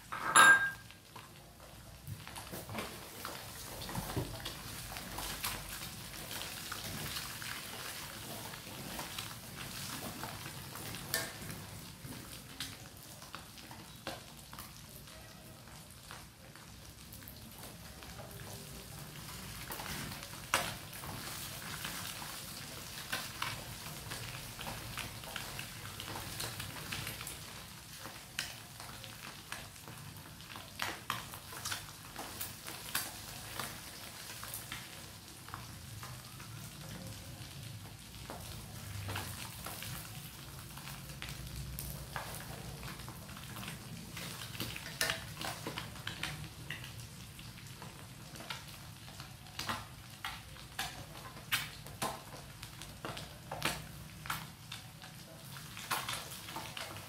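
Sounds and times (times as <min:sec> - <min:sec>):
eggs sizzling in hot oil: 0:00.0 - 0:57.0.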